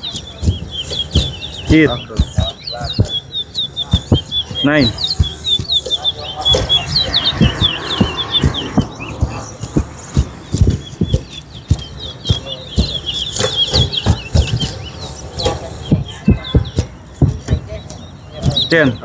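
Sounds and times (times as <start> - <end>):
finch singing high chirps: 0.0 - 19.0
low knocks and thumps: 0.4 - 18.8.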